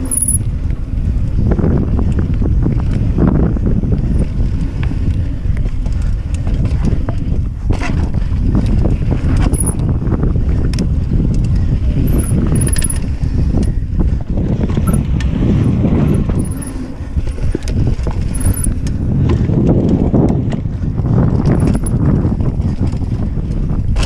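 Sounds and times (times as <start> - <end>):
bike chain rattling and clicking: 0.0 - 14.1, 14.7 - 24.0.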